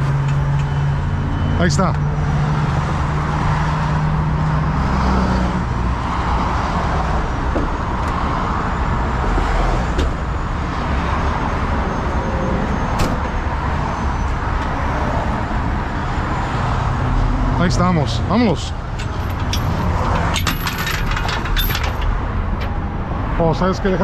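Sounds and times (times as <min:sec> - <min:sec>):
freeway traffic rushing: 0:00.0 - 0:24.0.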